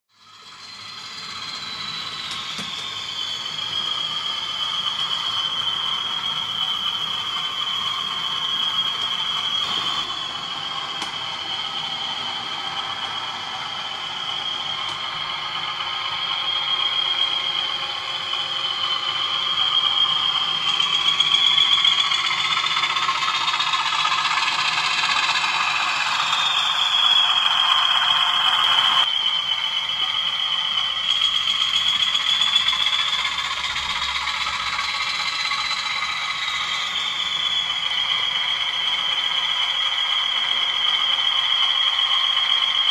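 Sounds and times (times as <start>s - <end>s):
model locomotive whine: 0.1s - 42.9s
small wheels rattling on track: 0.3s - 42.9s.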